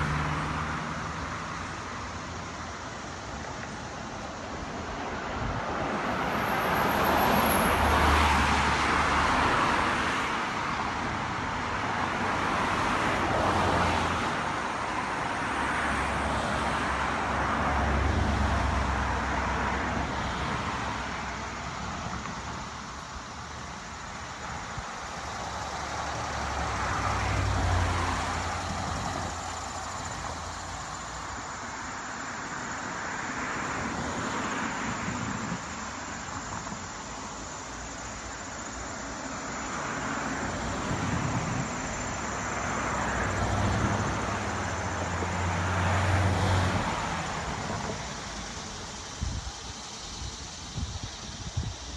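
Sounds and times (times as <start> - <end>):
cars passing: 0.0 - 51.9.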